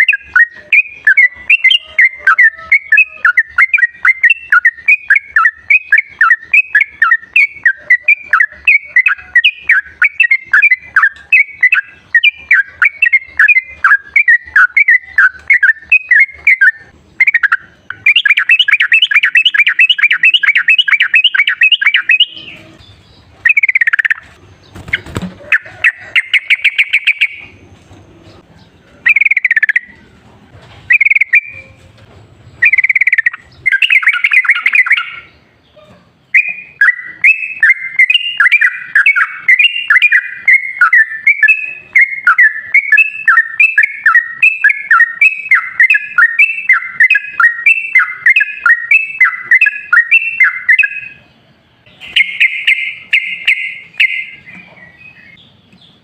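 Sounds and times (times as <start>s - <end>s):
bulbul chirping and trilling: 0.0s - 27.6s, 29.0s - 30.0s, 30.9s - 31.8s, 32.6s - 35.5s, 36.3s - 55.9s.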